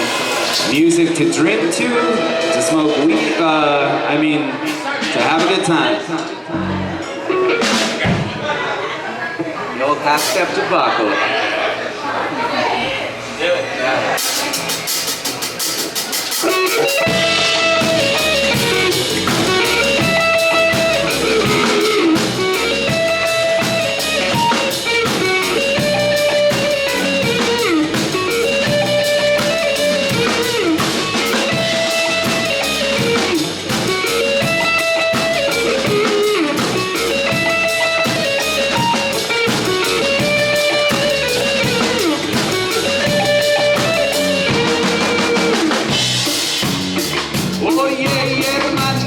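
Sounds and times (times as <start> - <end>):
electric guitar melody: 0.0 - 4.6, 6.1 - 8.0, 14.5 - 49.0
live band playing cumbia: 0.0 - 8.4, 14.2 - 49.0.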